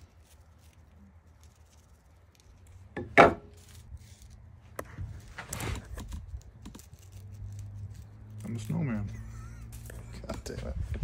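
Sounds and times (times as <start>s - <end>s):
wood shaving rustling: 0.0s - 11.0s.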